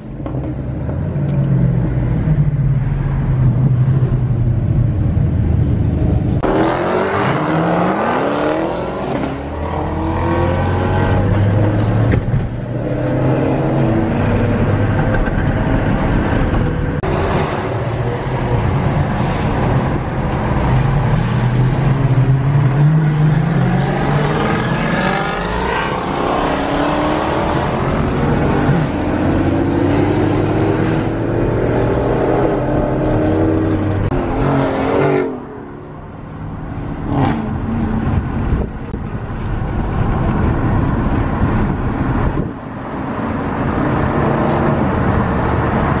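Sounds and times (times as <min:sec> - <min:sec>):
car engines running and revving: 0:00.0 - 0:46.0.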